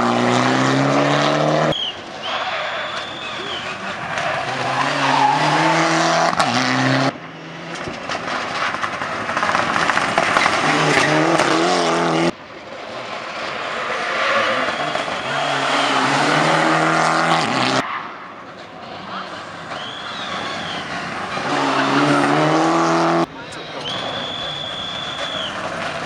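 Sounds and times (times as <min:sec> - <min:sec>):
rally car engines revving: 0:00.0 - 0:18.7, 0:19.4 - 0:26.0.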